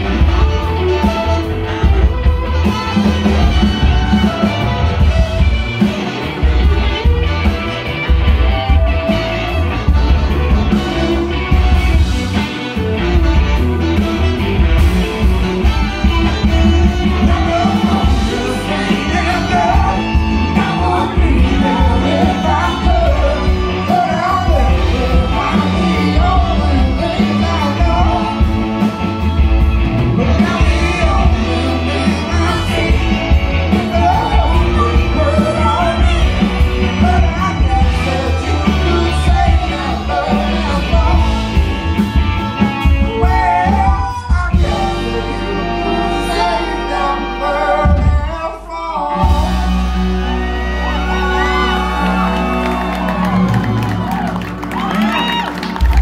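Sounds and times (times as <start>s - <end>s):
bass: 0.0s - 56.0s
drums: 0.0s - 56.0s
guitar: 0.0s - 56.0s.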